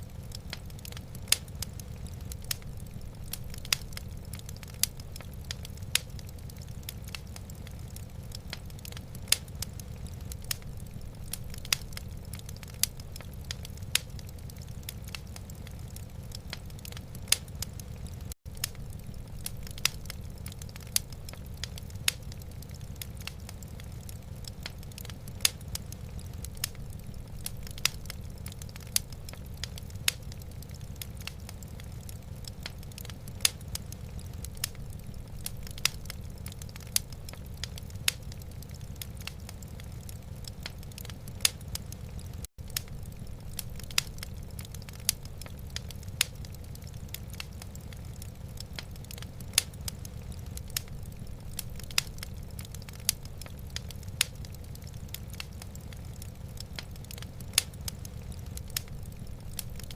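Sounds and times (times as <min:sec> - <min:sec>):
fire low rumble: 0:00.0 - 0:59.9
wood fire popping and snapping: 0:00.0 - 0:59.9.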